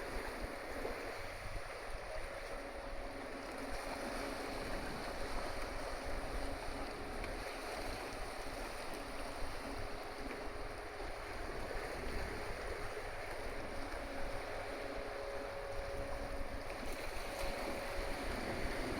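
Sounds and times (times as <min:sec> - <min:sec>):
ferry engine hum: 0:00.0 - 0:18.9
wind: 0:00.0 - 0:18.9.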